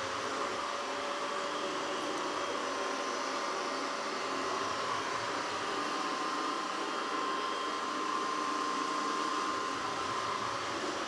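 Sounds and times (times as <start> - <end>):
robot vacuum whirring: 0.0 - 11.0.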